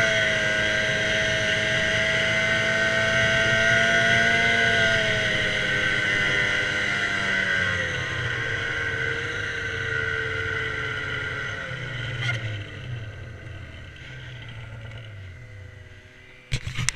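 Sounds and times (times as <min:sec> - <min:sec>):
snowmobile engine slowing: 0:00.0 - 0:16.9.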